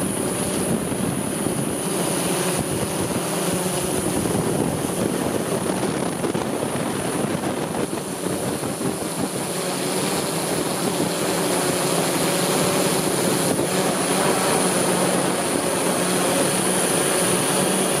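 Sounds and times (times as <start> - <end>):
drone motors buzzing hum: 0.0 - 18.0
high steady whine: 0.0 - 18.0.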